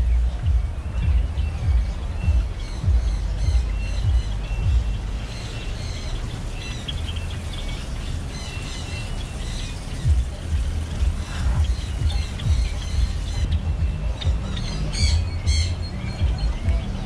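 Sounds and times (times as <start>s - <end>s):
birds chirping and calling: 0.0s - 17.0s
low rumble: 0.0s - 17.0s.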